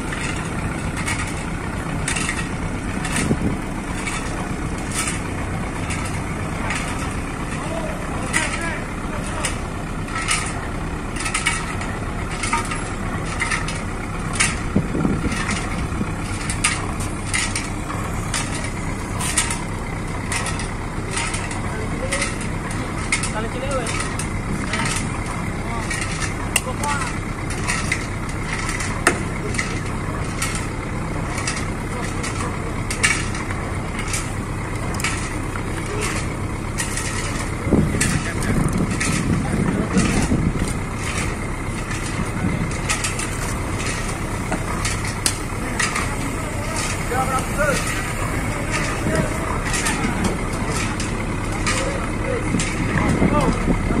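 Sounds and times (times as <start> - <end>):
boat engine running at low revs: 0.0 - 54.0
sharp clicks and knocks: 0.0 - 54.0.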